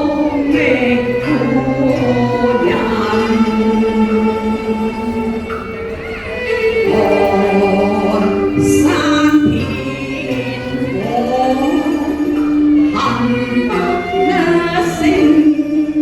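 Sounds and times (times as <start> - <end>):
instrumental ensemble holding notes: 0.0 - 16.0
opera duet singing: 0.0 - 16.0.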